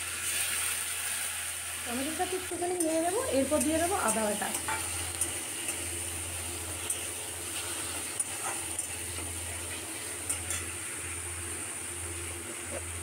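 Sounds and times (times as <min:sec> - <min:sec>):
tomatoes sizzling in oil: 0:00.0 - 0:13.0.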